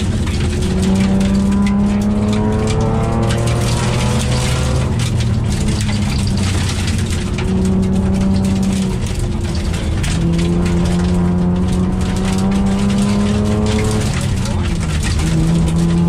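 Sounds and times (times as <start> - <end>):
car engine from inside cabin: 0.0 - 16.0
road and tyre noise: 0.0 - 16.0.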